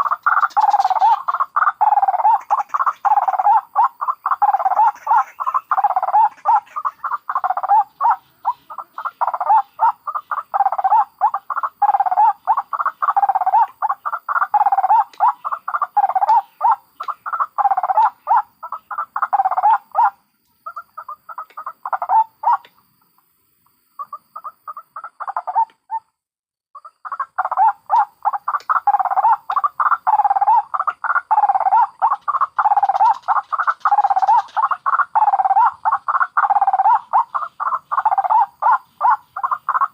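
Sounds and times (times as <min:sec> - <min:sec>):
waterhens calling: 0:00.0 - 0:22.8, 0:26.8 - 0:39.9.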